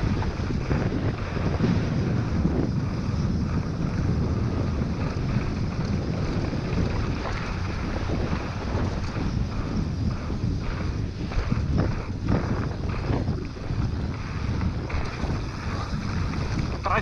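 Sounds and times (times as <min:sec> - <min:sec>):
mountain bike rumbling and rattling: 0:00.0 - 0:17.0
wind buffeting microphone: 0:00.0 - 0:17.0.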